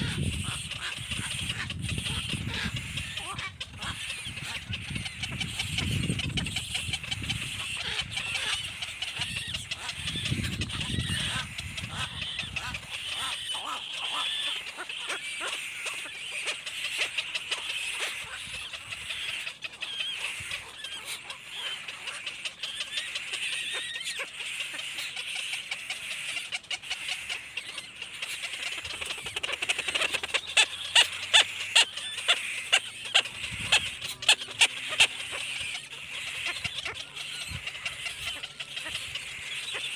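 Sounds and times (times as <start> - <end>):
baby birds chirping: 0.0 - 39.9
sharp bird calls: 0.0 - 39.9.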